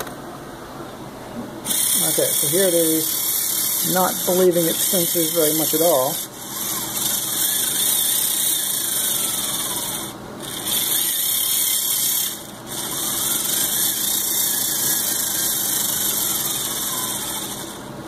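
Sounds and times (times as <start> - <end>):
electric motors whining: 1.6 - 18.0.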